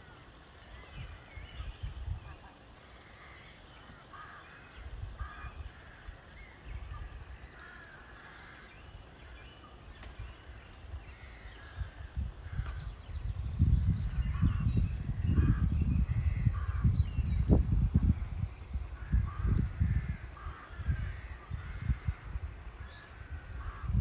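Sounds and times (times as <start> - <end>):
wind rumble on microphone: 0.0 - 2.8, 4.2 - 24.0.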